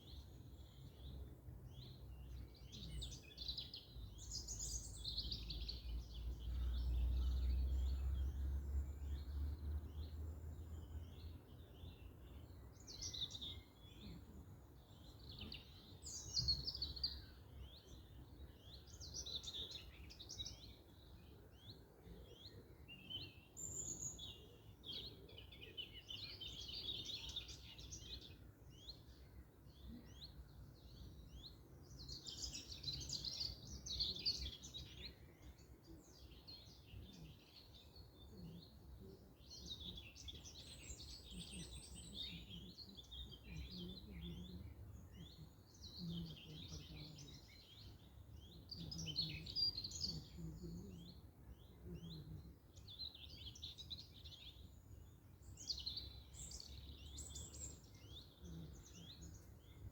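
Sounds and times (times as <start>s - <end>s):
songbirds chirping and singing: 0.0s - 59.9s.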